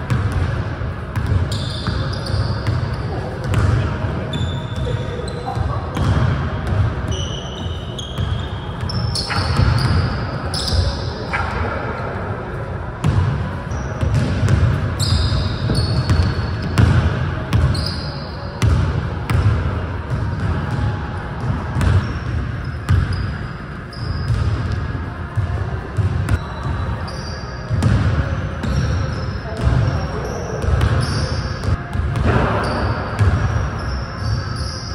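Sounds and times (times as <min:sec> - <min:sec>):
sneakers squeaking: 0:00.0 - 0:34.9.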